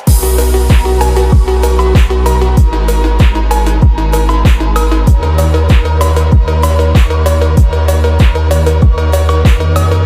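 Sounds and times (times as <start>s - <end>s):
electronic dance music: 0.0s - 10.0s
heavy kick drum: 0.1s - 9.7s
deep sustained bass: 0.1s - 10.0s.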